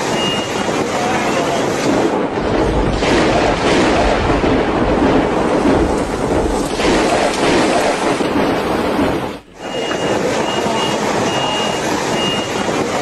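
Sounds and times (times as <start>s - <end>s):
heavy rain downpour: 0.0s - 13.0s.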